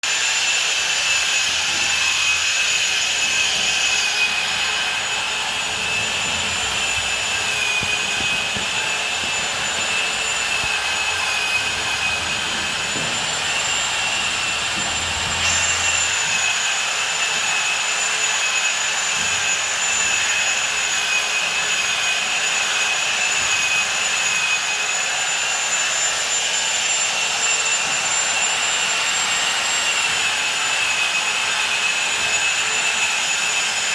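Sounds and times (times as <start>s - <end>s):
power tool motor whining: 0.1s - 33.9s.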